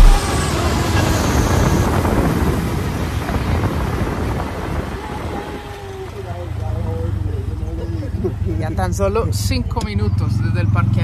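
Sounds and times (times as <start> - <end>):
motorcycle taxi engine and road noise: 0.0 - 11.0.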